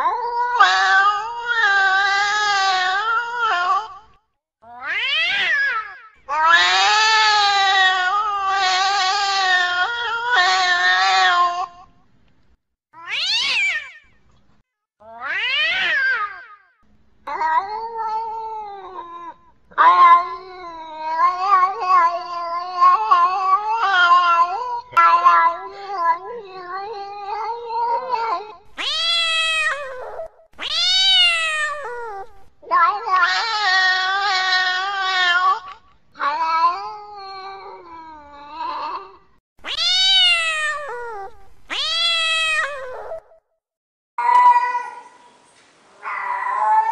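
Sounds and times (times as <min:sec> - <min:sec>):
cat yowling: 0:00.0 - 0:04.1, 0:04.7 - 0:11.8, 0:13.0 - 0:14.0, 0:15.0 - 0:16.6, 0:17.3 - 0:43.4, 0:44.2 - 0:45.2, 0:46.0 - 0:46.9.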